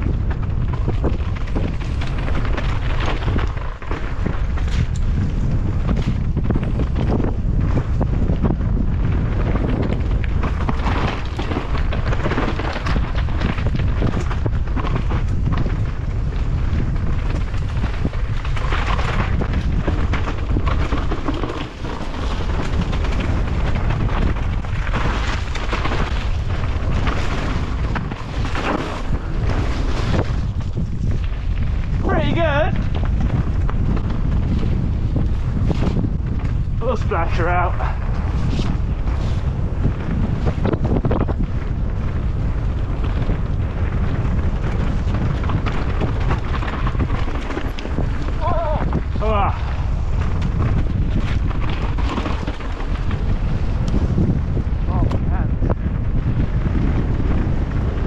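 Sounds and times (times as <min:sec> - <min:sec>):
bike tyre noise: 0:00.0 - 0:58.0
clatter over rough ground: 0:00.0 - 0:58.0
wind rumbling on microphone: 0:00.0 - 0:58.0.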